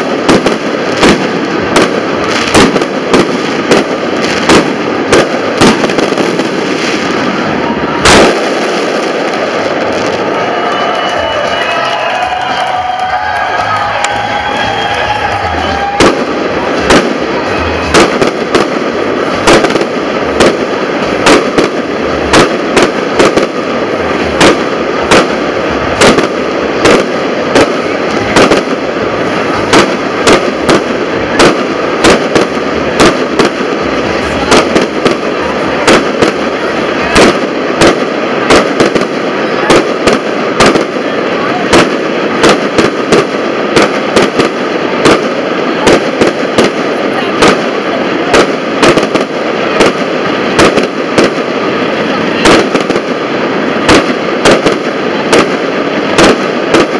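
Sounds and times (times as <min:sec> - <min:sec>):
continuous noisy din: 0:00.0 - 0:56.9
fireworks bangs: 0:00.0 - 0:56.9.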